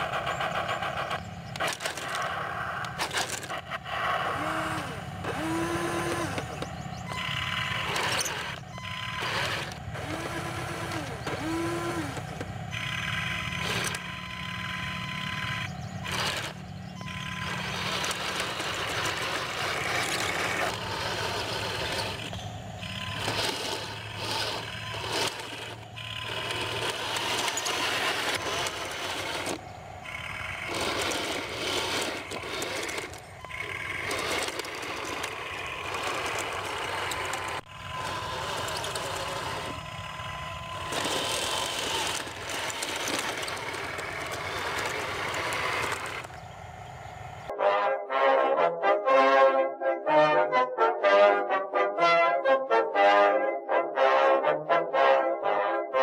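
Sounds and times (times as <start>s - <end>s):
electric motor whines: 0.0s - 47.5s
simulated engine rumble: 0.0s - 47.5s.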